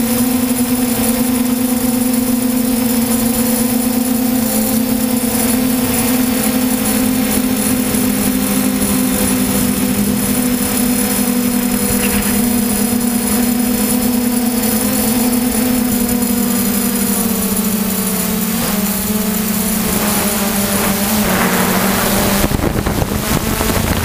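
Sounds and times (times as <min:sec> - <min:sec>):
drone propellers humming: 0:00.0 - 0:24.0
constant hiss: 0:01.8 - 0:24.0.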